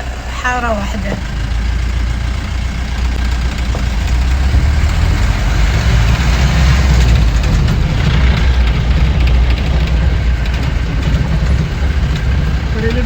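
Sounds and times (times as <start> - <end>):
road and wind noise: 0.0 - 13.0
vehicle engine rumbling: 0.0 - 13.0.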